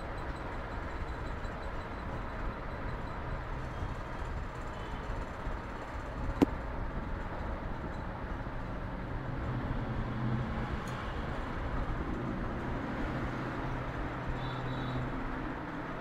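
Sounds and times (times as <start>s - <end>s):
street traffic rumble: 0.0s - 16.0s
engine hums: 2.1s - 16.0s.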